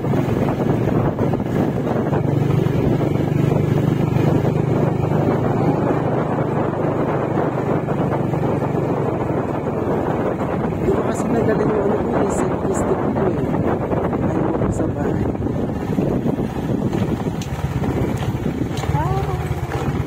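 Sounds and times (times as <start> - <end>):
vehicle engine running: 0.0 - 20.0
wind on microphone: 0.0 - 20.0.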